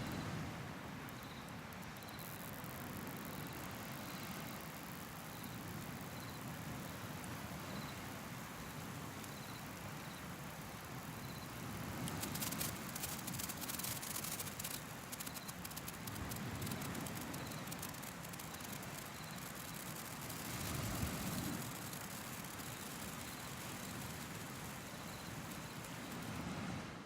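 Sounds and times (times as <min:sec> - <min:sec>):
campfire crackling: 0:00.8 - 0:26.5.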